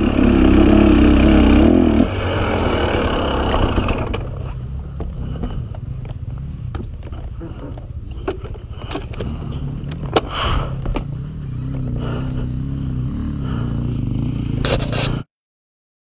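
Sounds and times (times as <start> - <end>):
dirt bike engine idling: 0.0 - 15.2.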